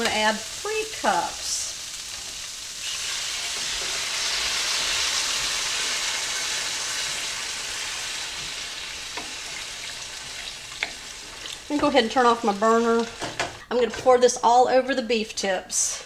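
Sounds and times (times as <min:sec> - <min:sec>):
broth sizzling in a hot pan: 0:00.0 - 0:13.5.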